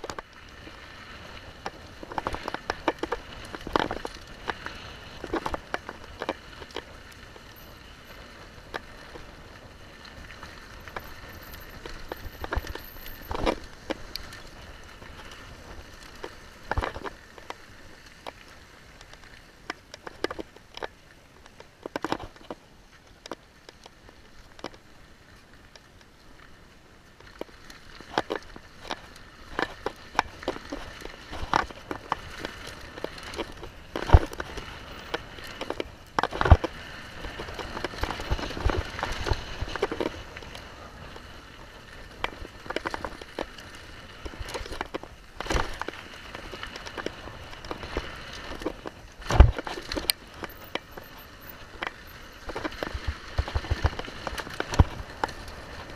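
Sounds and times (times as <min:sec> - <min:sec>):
tyres crunching over gravel: 0:00.0 - 0:22.6, 0:27.2 - 0:55.9.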